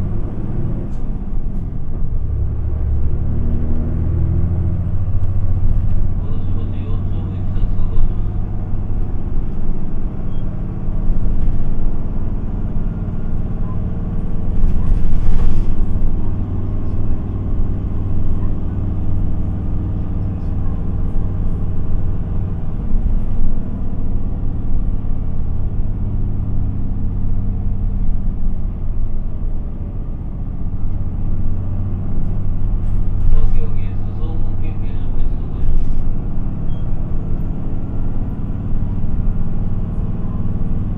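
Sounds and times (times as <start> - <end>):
bus diesel engine hum: 0.0 - 40.9.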